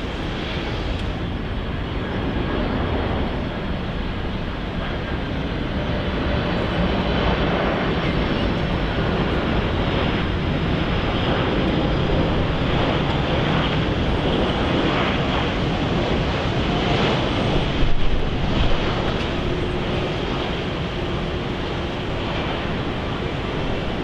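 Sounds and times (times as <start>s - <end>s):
jet airliner roar: 0.0s - 24.0s
wind buffeting microphone: 0.0s - 24.0s.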